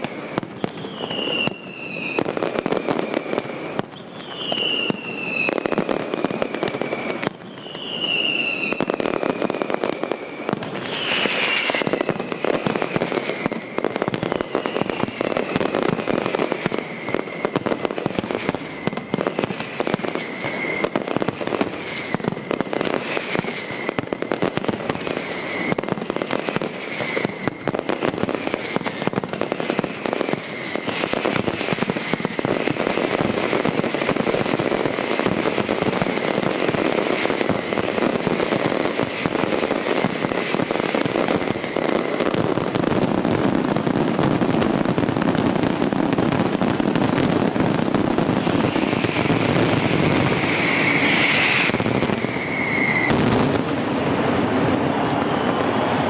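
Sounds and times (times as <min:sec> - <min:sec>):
falling firework whistles: 0:00.0 - 0:56.0
firework bangs and crackling: 0:00.0 - 0:56.0.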